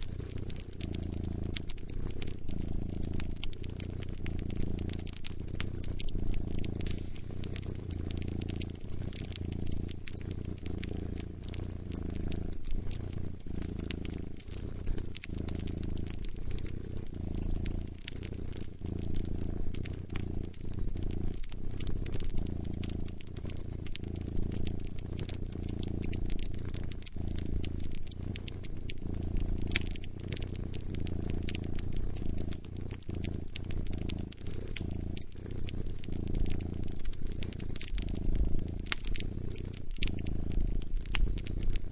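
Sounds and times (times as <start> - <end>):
cat purring: 0.0 - 41.9
wood fire crackling: 0.0 - 41.9.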